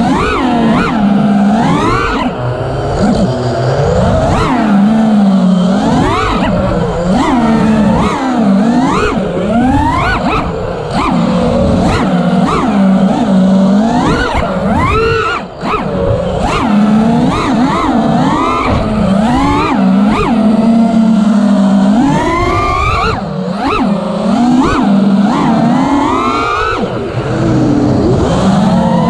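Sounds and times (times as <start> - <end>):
quadcopter motors whining: 0.0 - 29.0.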